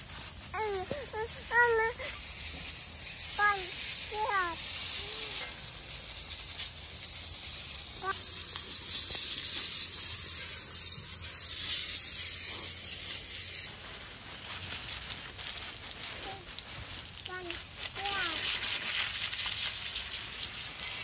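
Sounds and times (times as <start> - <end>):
water spraying from hose: 0.0 - 21.0.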